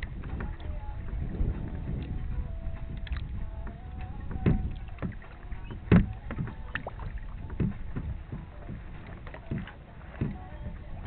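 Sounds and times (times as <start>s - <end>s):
boat hull slapping waves: 0.0s - 11.0s
rush of water and wind: 0.0s - 11.0s.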